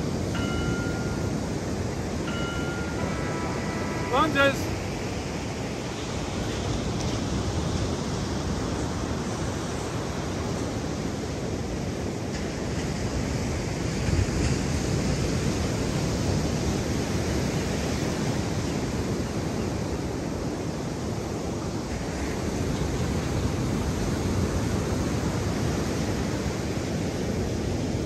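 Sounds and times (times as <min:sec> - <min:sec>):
ocean surf: 0:00.0 - 0:28.0
wind: 0:00.0 - 0:28.0.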